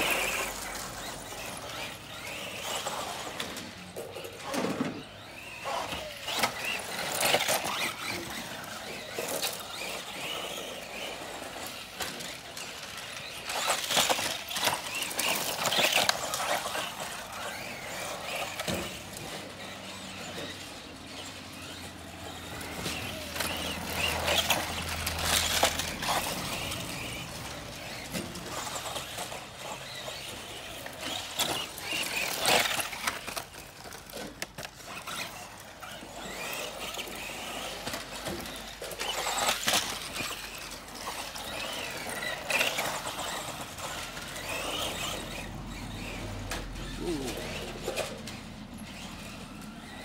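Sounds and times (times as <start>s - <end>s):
tyres scrabbling on dirt: 0.0s - 50.0s.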